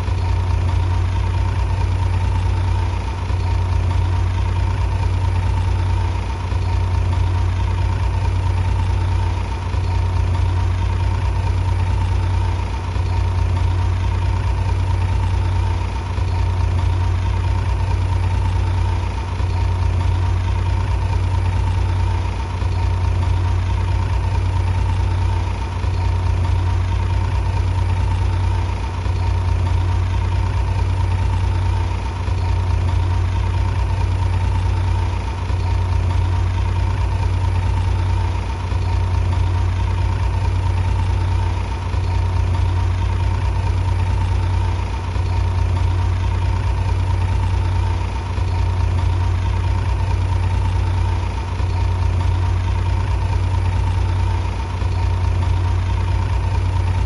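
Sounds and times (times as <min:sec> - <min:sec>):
diesel engine humming: 0:00.0 - 0:57.0
faint engine whine: 0:00.0 - 0:57.0.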